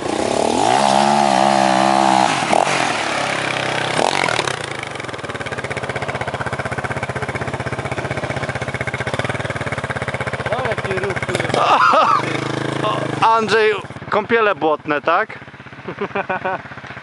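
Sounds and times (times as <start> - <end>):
motorcycle engine revving: 0.0 - 17.0
motorcycle engine idling: 2.5 - 17.0.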